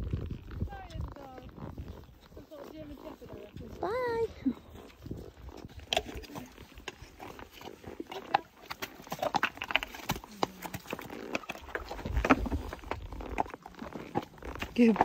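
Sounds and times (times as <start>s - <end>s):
hooves clopping on rocks: 0.0s - 15.0s.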